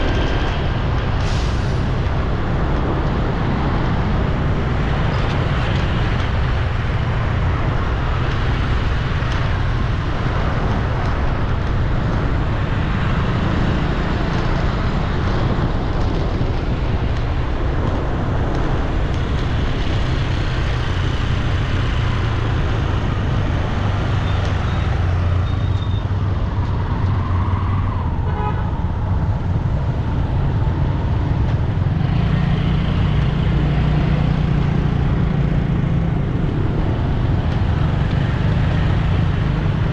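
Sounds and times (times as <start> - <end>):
city road traffic rumble: 0.0 - 39.9.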